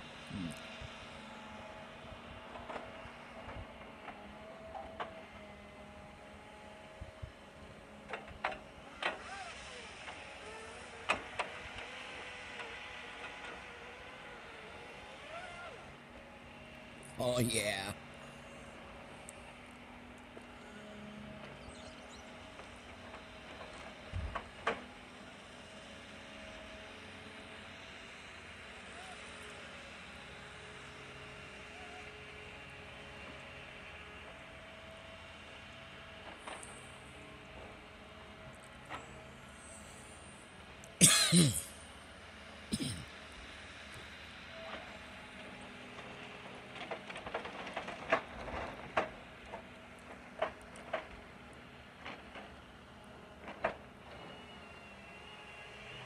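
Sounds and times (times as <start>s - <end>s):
distant diesel machinery drone: 0.0s - 56.0s.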